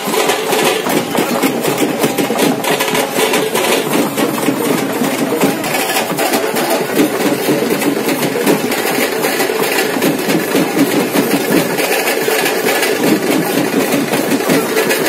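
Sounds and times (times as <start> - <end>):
loud fast hand drumming: 0.0 - 15.0.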